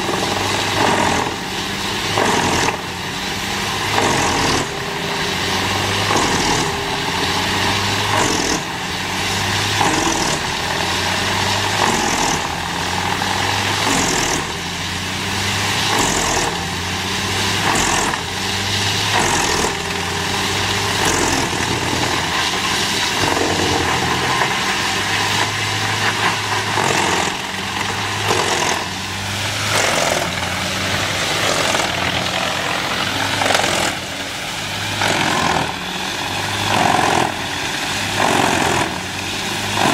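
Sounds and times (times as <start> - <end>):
wood chipper engine droning: 0.0 - 39.9
wood chipping surges: 0.2 - 39.9.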